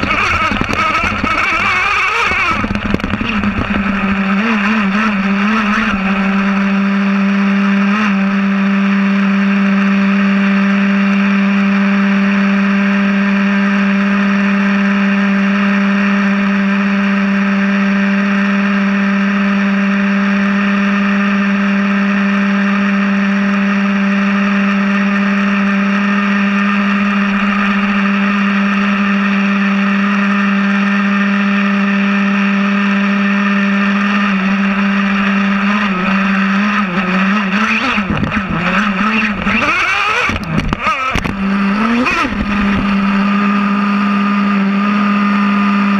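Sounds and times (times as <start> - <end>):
nitro engine idling: 0.0 - 45.9.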